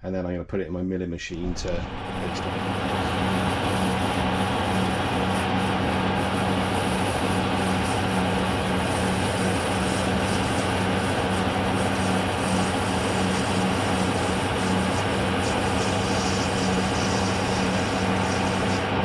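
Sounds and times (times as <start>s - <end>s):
metal lathe running: 1.5s - 19.0s.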